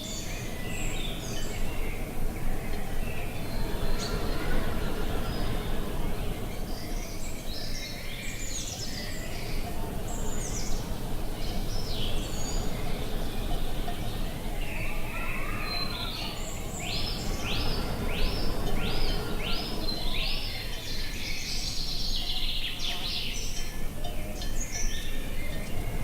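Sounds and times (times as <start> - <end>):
birds chirping and warbling: 0.0 - 26.0
gusting wind: 0.0 - 26.0.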